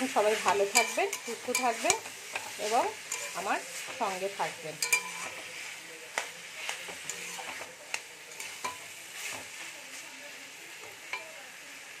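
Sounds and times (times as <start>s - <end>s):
spatula scraping a pan: 0.0s - 11.3s
food sizzling: 0.0s - 12.0s
spatula clinking against pan: 0.3s - 9.6s, 10.8s - 11.4s.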